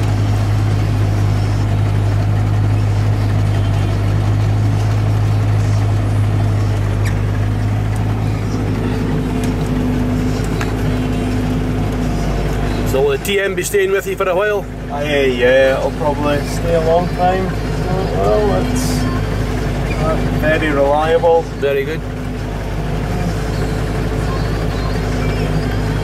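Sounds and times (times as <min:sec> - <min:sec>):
higher steady hum: 0:00.0 - 0:26.0
tractor diesel engine droning: 0:00.0 - 0:26.0.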